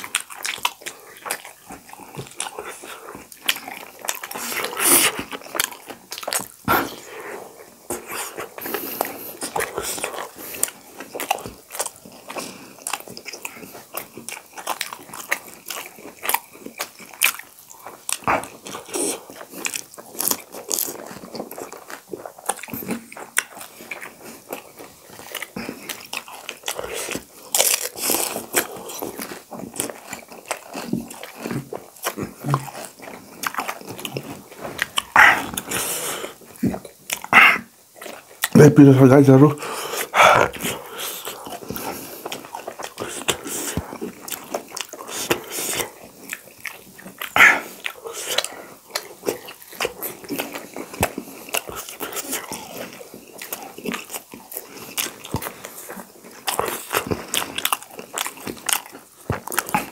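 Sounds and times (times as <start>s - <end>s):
people chewing and crunching: 0.0s - 59.9s.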